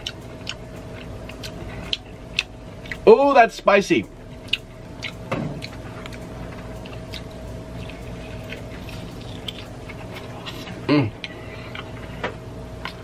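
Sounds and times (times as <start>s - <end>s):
wet chewing and mouth clicks: 0.0s - 3.0s, 4.4s - 12.0s
faint steady hum: 0.0s - 13.0s.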